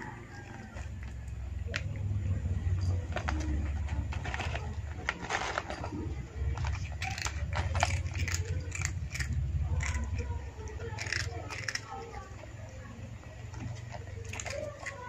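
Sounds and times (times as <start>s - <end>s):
cat chewing crunchy snacks: 0.0s - 15.0s
low steady rumble: 0.0s - 15.0s.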